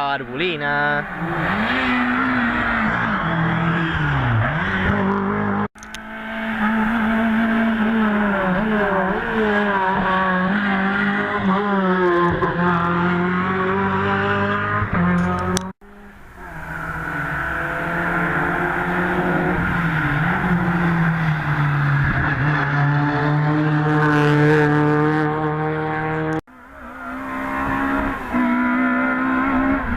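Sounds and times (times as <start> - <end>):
race car engines revving: 0.1 - 29.9.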